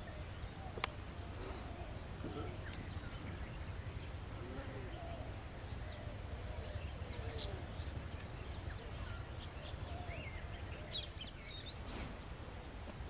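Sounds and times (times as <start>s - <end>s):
bird chirps: 0.0s - 12.1s
insect drone: 0.0s - 13.0s.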